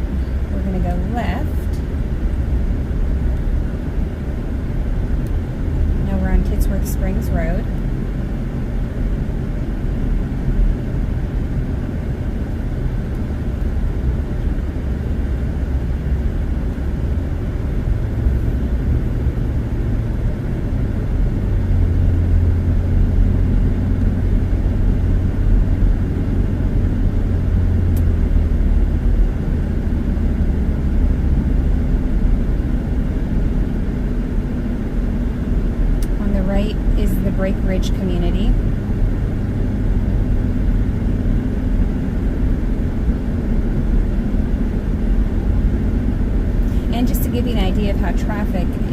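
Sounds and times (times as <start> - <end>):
car tyres and engine rumble: 0.0 - 48.9
deep drone: 0.0 - 48.9.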